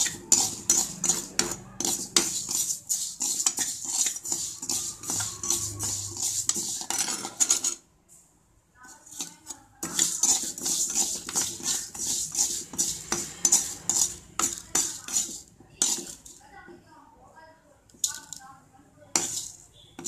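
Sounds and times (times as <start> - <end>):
steel spoon stirring and scraping: 0.0 - 7.8, 8.8 - 16.6, 17.9 - 18.5, 19.1 - 20.0.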